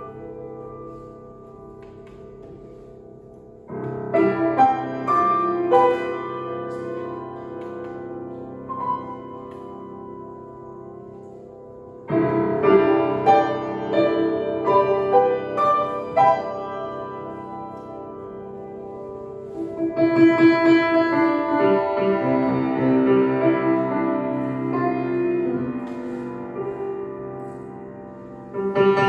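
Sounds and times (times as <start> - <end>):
grand piano chords and notes: 0.0 - 29.0.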